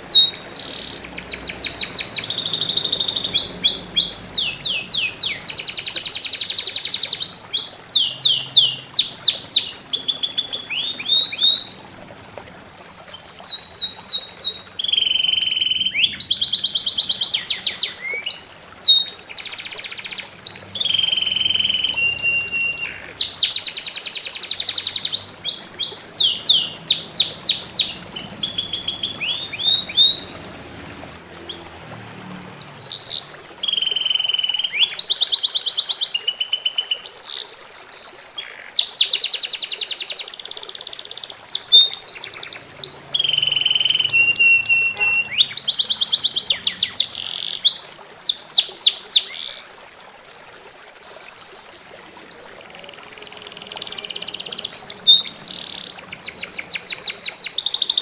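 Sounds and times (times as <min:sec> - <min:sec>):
songbird singing: 0:00.0 - 0:11.9, 0:13.0 - 0:30.4, 0:31.4 - 0:49.7, 0:51.9 - 0:58.0
water trickling: 0:00.0 - 0:58.0.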